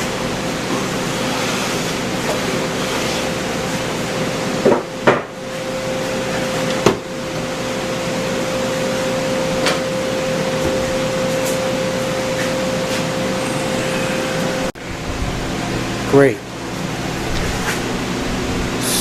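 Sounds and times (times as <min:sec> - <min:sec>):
rushing mechanical noise with hum: 0:00.0 - 0:19.0.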